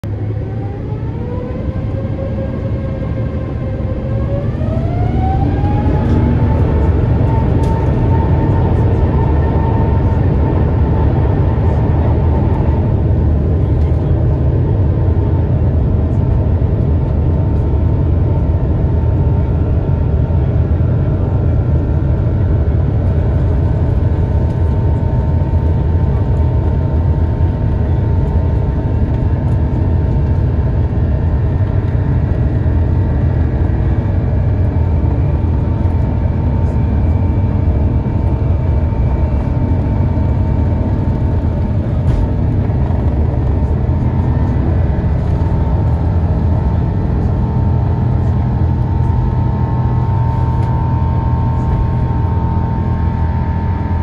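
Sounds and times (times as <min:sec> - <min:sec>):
jet engine cabin drone: 0:00.0 - 0:54.0.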